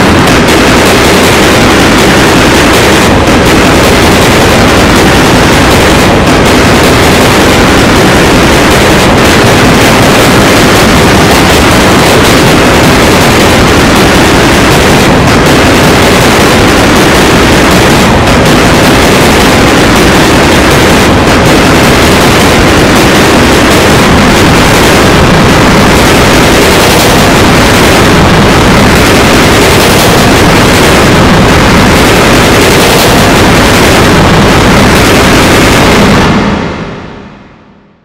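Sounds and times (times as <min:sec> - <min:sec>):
harsh distorted noise: 0:00.0 - 0:38.0.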